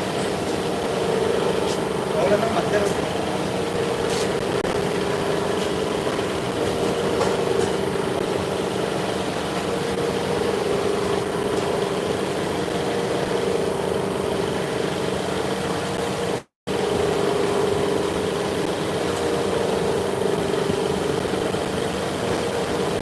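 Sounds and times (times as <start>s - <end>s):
workshop machinery humming: 0.0s - 23.0s.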